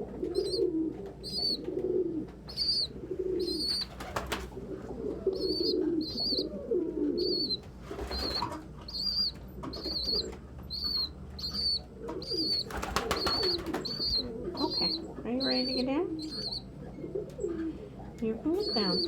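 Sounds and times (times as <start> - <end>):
pigeons cooing: 0.0 - 19.0
wings fluttering: 0.2 - 6.3, 7.3 - 16.6.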